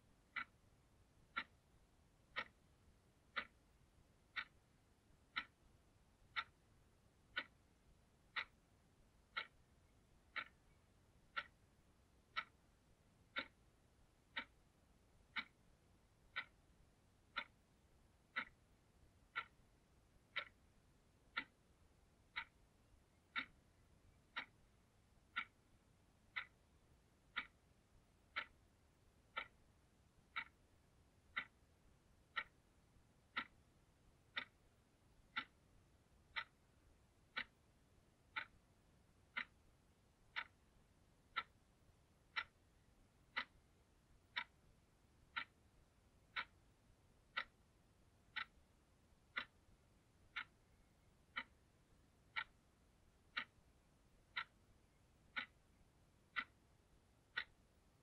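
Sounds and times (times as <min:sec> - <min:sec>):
alarm clock ticking: 0:00.1 - 0:58.0.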